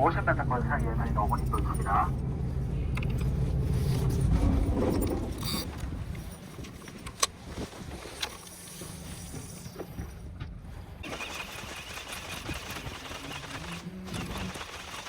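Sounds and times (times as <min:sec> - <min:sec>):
boat engine running low: 0:00.0 - 0:15.0.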